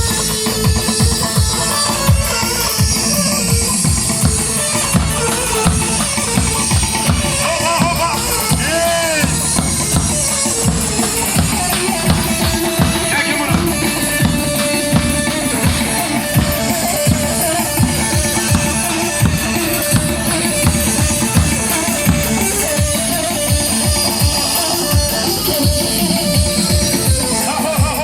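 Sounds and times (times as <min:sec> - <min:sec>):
plucked string melody: 0:00.0 - 0:28.0
quick drum beat: 0:00.0 - 0:28.0.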